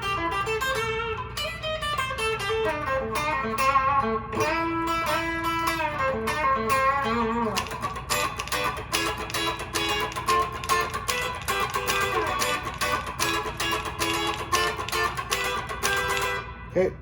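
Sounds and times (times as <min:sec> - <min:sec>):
electric guitar through amplifier: 0:00.0 - 0:17.0.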